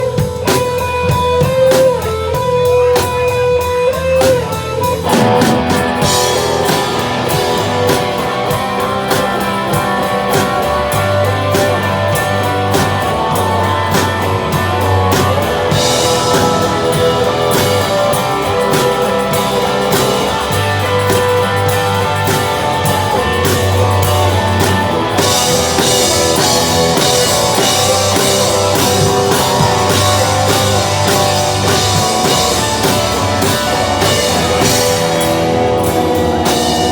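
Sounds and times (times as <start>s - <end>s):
live blues-rock band: 0.0s - 36.9s.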